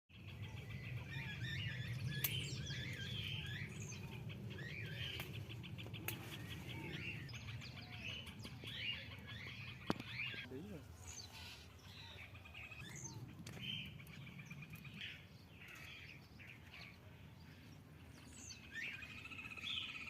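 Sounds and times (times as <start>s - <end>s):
birds chirping and trilling: 0.1s - 20.0s.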